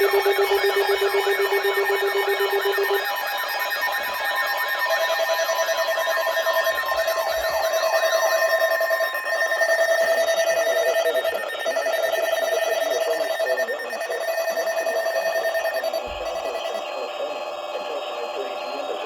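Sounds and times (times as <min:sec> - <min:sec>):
rapidly pulsing alert beep: 0:00.0 - 0:19.0.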